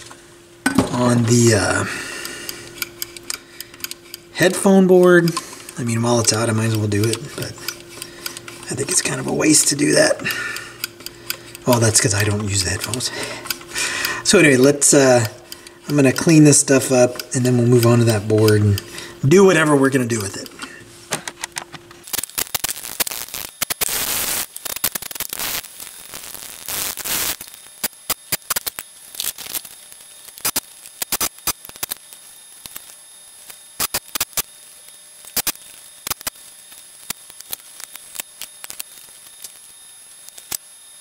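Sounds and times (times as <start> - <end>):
sharp irregular clicks: 2.2 - 18.8, 22.0 - 34.5, 35.2 - 40.7.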